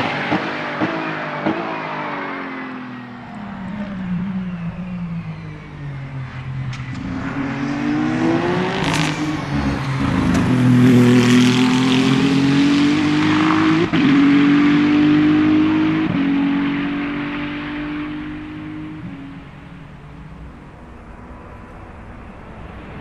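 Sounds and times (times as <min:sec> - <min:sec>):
race car engine accelerating: 0:00.0 - 0:23.0.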